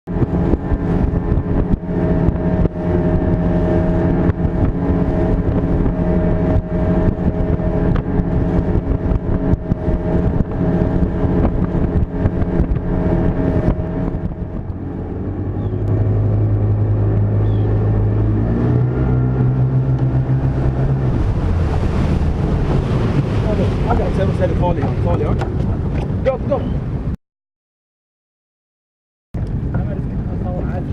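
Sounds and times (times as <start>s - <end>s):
boat engine running: 0.0s - 27.2s, 29.4s - 30.9s.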